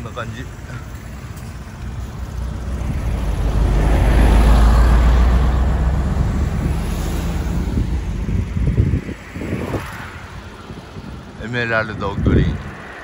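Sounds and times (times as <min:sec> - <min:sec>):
bus passing rumble: 0:00.0 - 0:13.0
wind rushing over microphone: 0:01.8 - 0:13.0.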